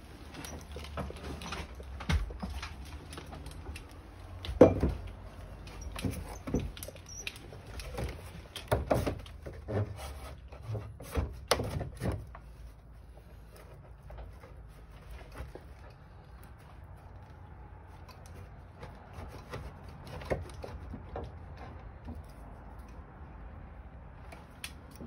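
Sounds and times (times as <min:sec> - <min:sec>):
metal knocking and scraping on wood: 0:00.1 - 0:16.2, 0:17.9 - 0:22.9.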